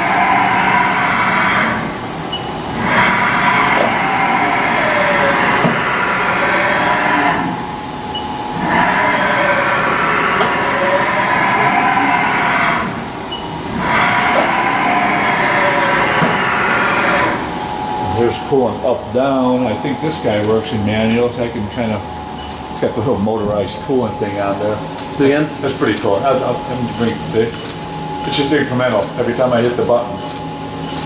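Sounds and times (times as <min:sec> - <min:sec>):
servo drive whining: 0:00.0 - 0:31.0.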